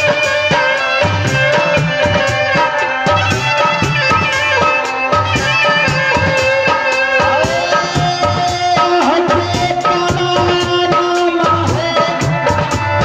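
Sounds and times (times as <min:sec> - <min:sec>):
hand drum beats: 0:00.0 - 0:13.0.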